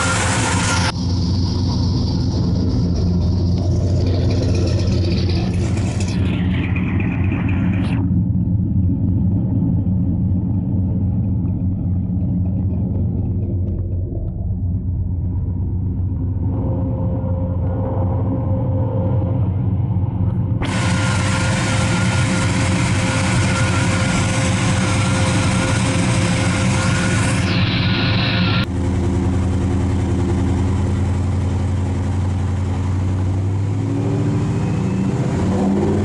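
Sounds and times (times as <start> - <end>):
car engine rumbling: 0.0 - 36.0.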